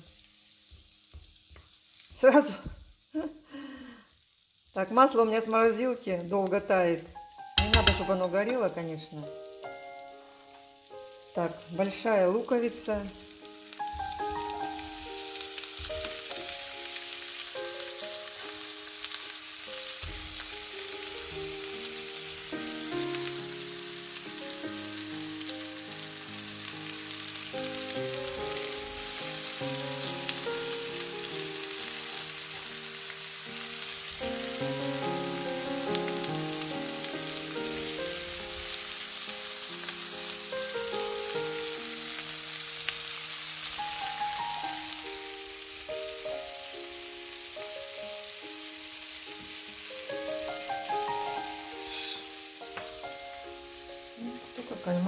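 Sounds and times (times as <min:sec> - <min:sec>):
butter sizzling in a pan: 0:00.0 - 0:55.0
soft instrumental music: 0:06.6 - 0:55.0.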